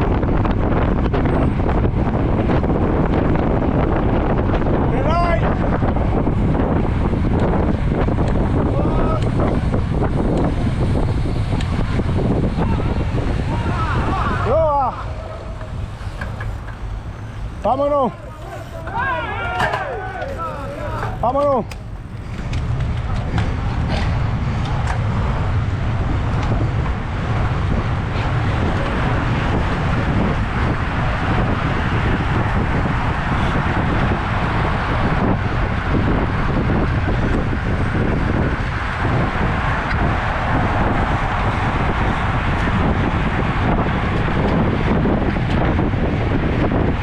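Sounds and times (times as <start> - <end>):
wind rumble on microphone: 0.0 - 47.0.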